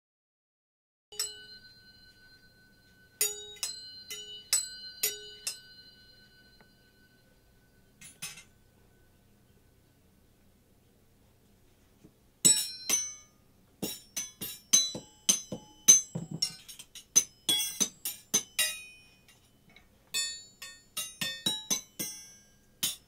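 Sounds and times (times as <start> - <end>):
metal spoons ringing: 1.1 - 9.2, 12.4 - 23.0.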